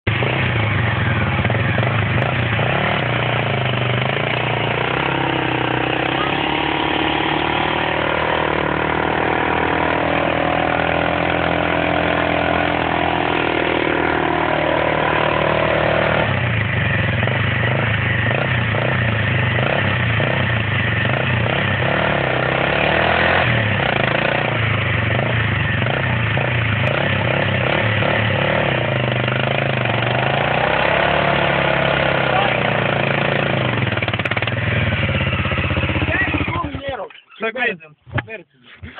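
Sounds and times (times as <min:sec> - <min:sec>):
motorcycle engine running: 0:00.0 - 0:37.3.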